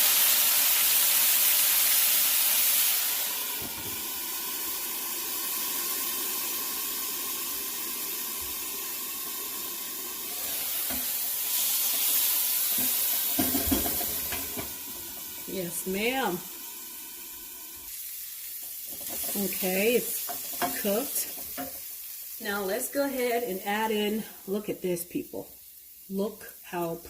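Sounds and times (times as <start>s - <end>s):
curry paste sizzling in a pan: 0.0s - 27.0s.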